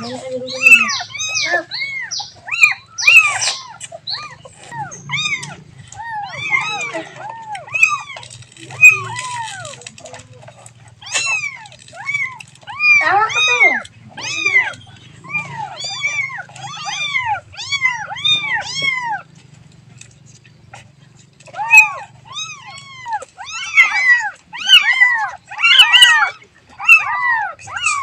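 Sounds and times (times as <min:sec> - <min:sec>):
kitten meowing: 0:00.0 - 0:10.2, 0:11.0 - 0:19.3, 0:21.5 - 0:28.0.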